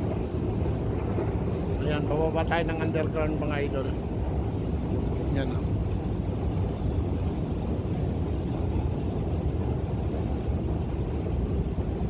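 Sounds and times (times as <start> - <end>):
escalator low rumble: 0.0 - 12.0.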